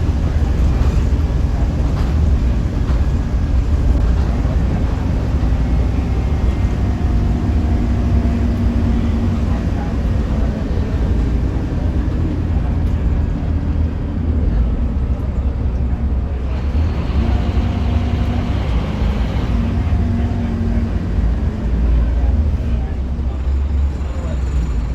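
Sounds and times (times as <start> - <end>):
bus engine and road rumble: 0.0 - 24.9.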